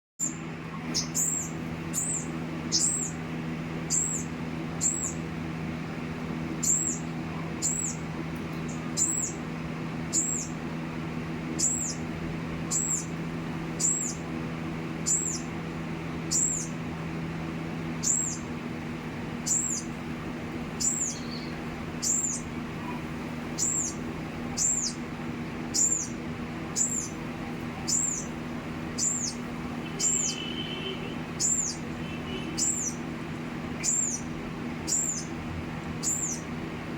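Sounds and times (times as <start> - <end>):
small bird chirping: 0.2 - 5.3, 6.5 - 10.6, 11.5 - 14.3, 15.0 - 15.6, 16.2 - 16.8, 17.9 - 18.6, 19.4 - 20.0, 20.6 - 36.5.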